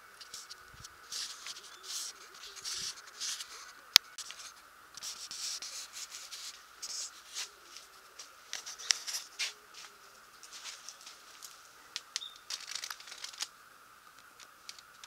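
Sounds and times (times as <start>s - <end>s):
low steady hiss: 0.0s - 15.0s
rustling and scraping: 0.2s - 13.5s.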